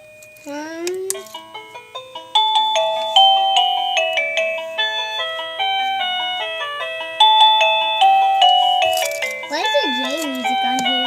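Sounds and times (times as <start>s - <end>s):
electronic doorbell chime melody: 1.5s - 11.0s.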